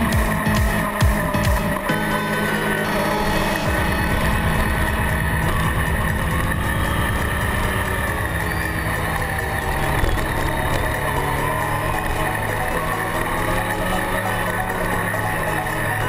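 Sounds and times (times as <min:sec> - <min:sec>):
motorcycle engine at speed: 0:00.0 - 0:16.0.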